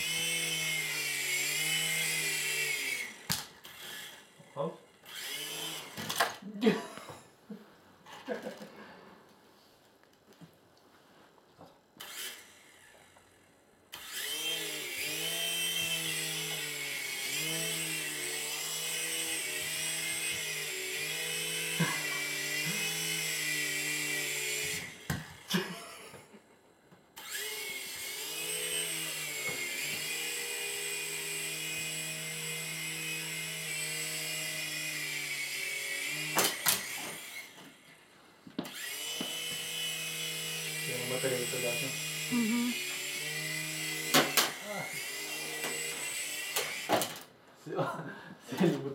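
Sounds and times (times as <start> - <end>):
toy helicopter motor whirring: 0.0 - 6.4, 12.0 - 26.3, 27.2 - 47.3.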